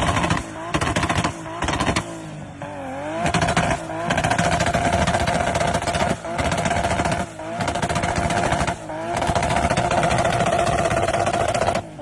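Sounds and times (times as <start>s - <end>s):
car engine revving: 0.0s - 12.0s
exhaust popping and crackling: 0.0s - 12.0s.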